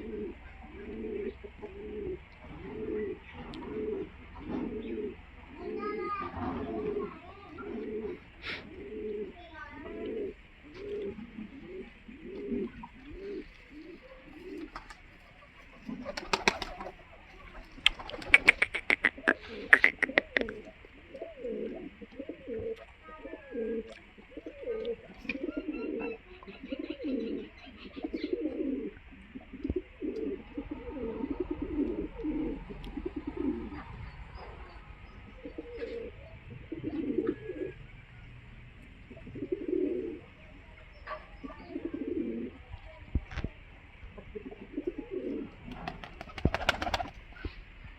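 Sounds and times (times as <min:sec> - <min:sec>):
pigeons cooing: 0:00.0 - 0:42.7, 0:43.9 - 0:47.9.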